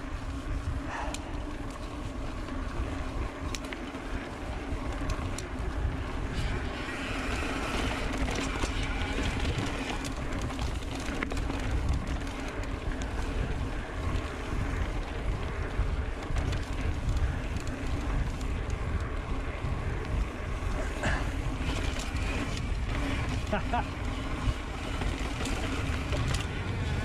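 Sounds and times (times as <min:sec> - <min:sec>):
bike clicking and rattling: 0:00.0 - 0:27.0
tyres hissing on dirt trail: 0:00.0 - 0:27.0
wind noise on microphone: 0:00.0 - 0:27.0.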